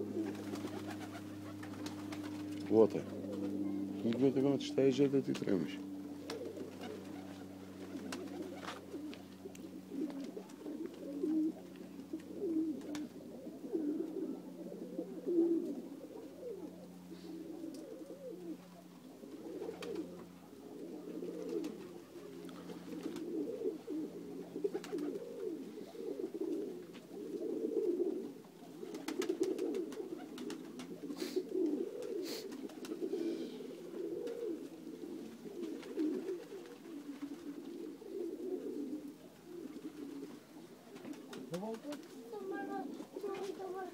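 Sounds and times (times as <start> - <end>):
low steady hum: 0.0 - 43.9
pigeons cooing: 0.0 - 43.9.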